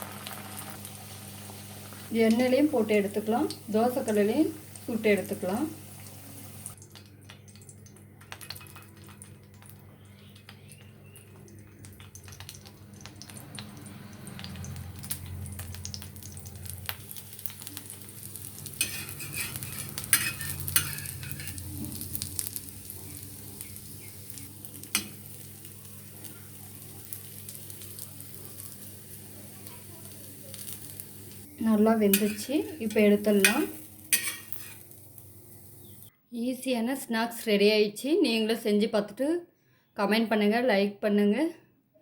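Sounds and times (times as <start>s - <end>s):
food sizzling in hot oil: 0.0s - 6.8s, 7.4s - 36.1s.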